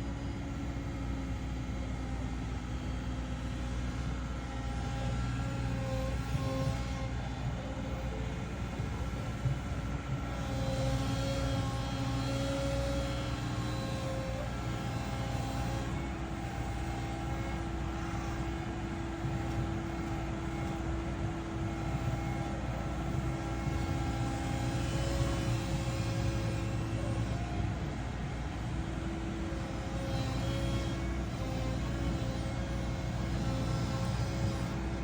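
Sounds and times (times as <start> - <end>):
excavator diesel engine running: 0.0 - 35.0
hydraulic whining: 3.9 - 35.0.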